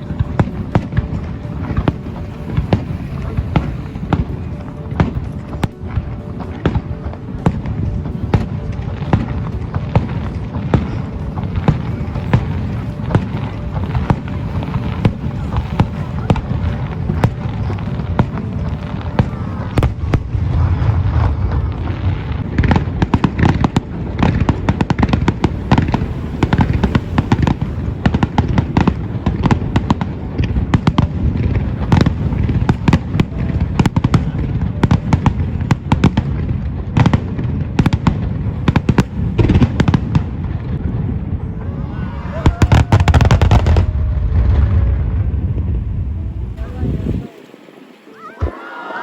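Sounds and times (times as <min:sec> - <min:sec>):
firework shell bursts crackling: 0:00.0 - 0:40.6
low rumble of booms: 0:06.9 - 0:41.7, 0:42.6 - 0:47.2.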